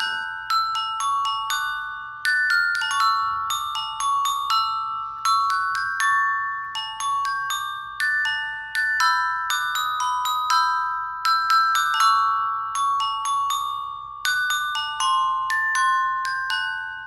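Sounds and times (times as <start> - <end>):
gentle glockenspiel melody: 0.0 - 17.0.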